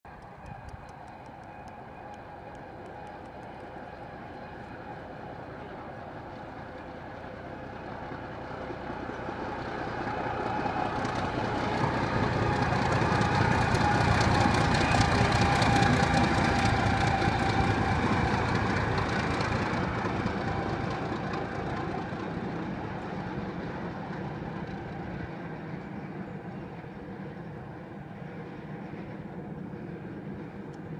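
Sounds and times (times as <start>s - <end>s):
diesel locomotive passing: 0.1s - 30.9s.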